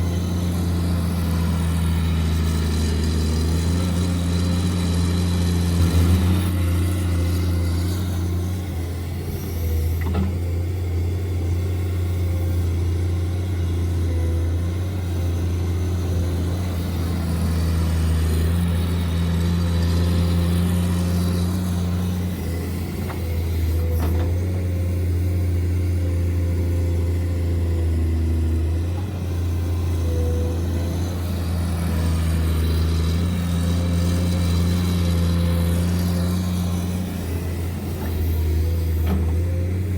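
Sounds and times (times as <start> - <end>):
model vehicle engines droning: 0.0 - 39.9.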